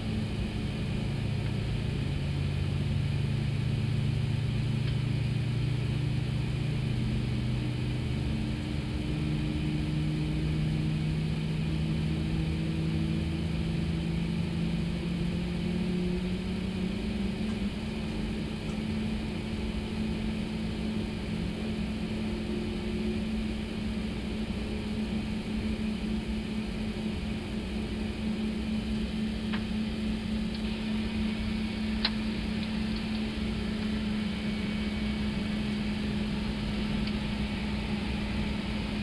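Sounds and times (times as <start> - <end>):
jet engine drone: 0.0 - 39.0.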